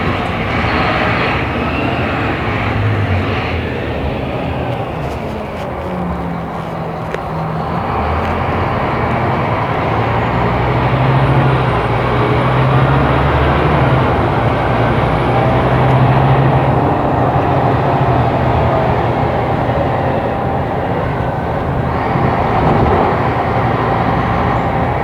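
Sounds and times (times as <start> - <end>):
bus diesel engine under load: 0.0 - 25.0.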